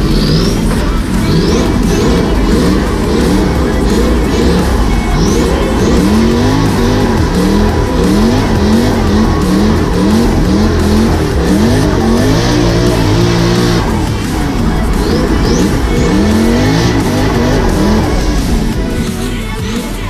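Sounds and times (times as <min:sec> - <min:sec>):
car engine revving hard: 0:00.0 - 0:20.0
music: 0:00.0 - 0:20.0
tyres squealing: 0:00.0 - 0:20.0.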